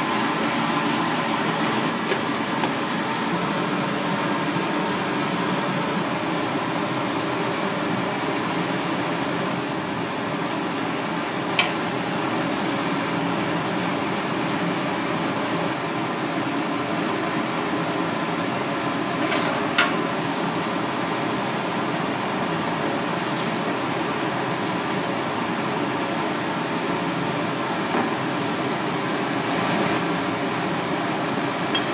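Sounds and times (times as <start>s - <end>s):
ventilation fan hum: 0.0s - 31.9s.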